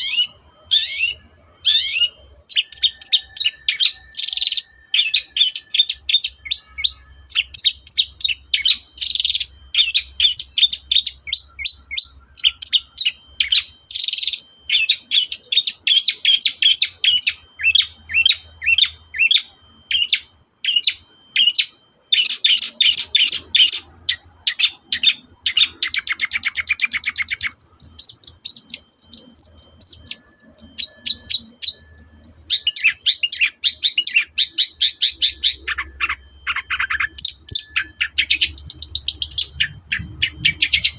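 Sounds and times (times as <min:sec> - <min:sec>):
bird singing chirping notes: 0:00.0 - 0:40.9
rapid bird trill: 0:00.0 - 0:40.9.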